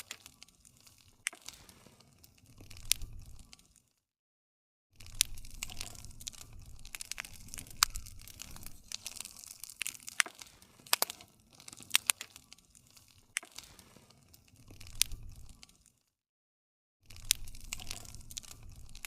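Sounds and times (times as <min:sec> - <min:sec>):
wood fire crackling: 0:00.0 - 0:04.0, 0:05.0 - 0:16.1, 0:17.1 - 0:19.0.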